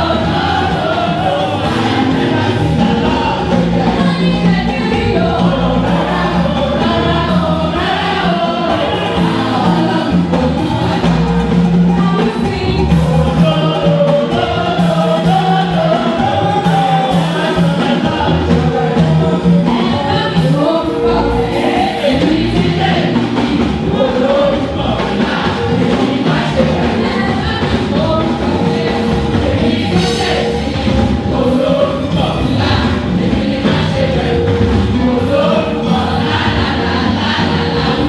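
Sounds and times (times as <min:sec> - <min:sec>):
choir singing gospel: 0:00.0 - 0:38.0
instrumental accompaniment: 0:00.0 - 0:38.0.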